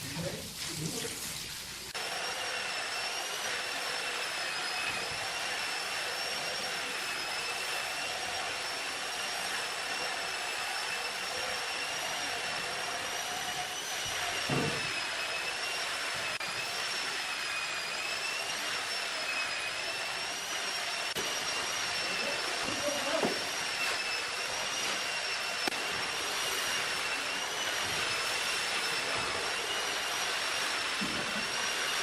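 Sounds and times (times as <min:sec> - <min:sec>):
power tool motor whining: 0:01.9 - 0:32.0.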